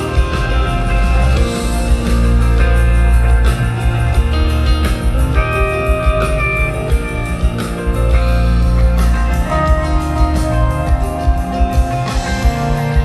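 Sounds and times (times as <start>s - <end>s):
electric guitar: 0.0s - 13.0s
rock band playing: 0.0s - 13.0s.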